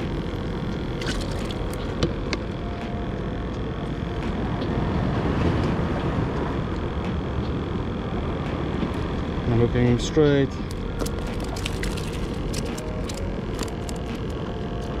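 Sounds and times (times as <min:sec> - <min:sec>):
water: 0:00.0 - 0:15.0
wind: 0:00.0 - 0:15.0.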